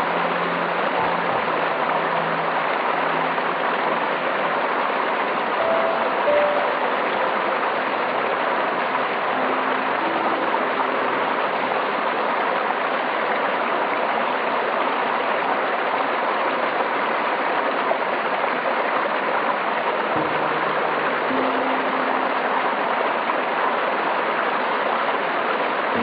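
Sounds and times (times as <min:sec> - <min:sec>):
flowing water: 0:00.0 - 0:26.0
rain: 0:00.0 - 0:26.0.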